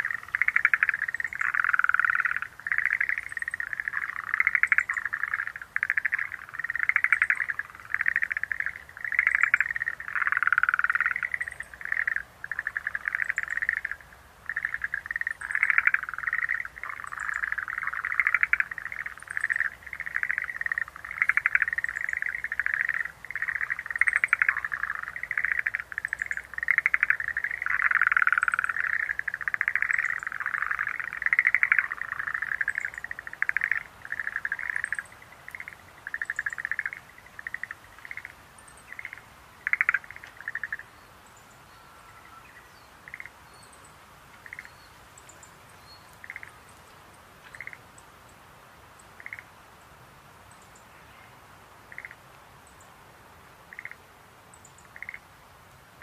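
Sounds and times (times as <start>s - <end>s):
tree frogs trilling: 0.0s - 48.4s, 49.0s - 49.6s, 50.5s - 52.9s, 53.6s - 55.4s.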